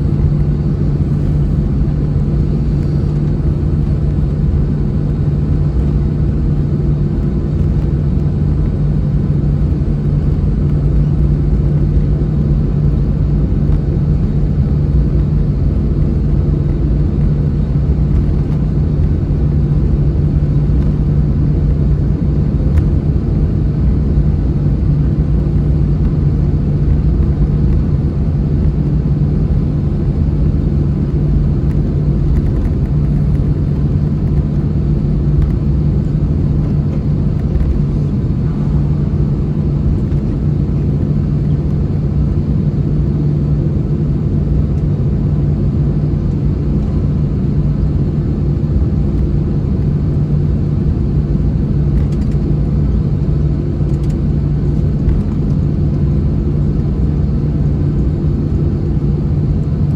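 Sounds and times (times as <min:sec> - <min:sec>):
aircraft cabin hum and rumble: 0:00.0 - 0:59.9.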